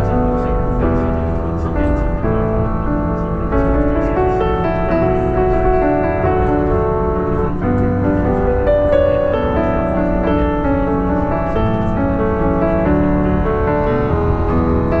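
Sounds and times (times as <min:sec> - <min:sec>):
instrumental piano music: 0:00.0 - 0:15.0.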